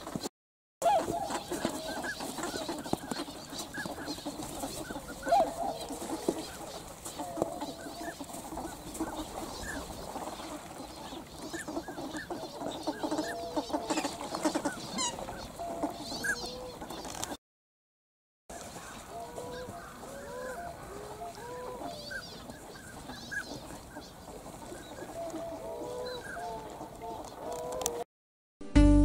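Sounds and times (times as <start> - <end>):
swans and ducks calling: 0.0 - 17.4, 18.5 - 28.0.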